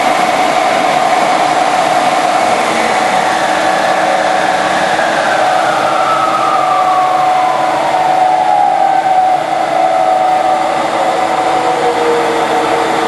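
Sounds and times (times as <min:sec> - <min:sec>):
lathe belt drive whining: 0:00.0 - 0:13.0.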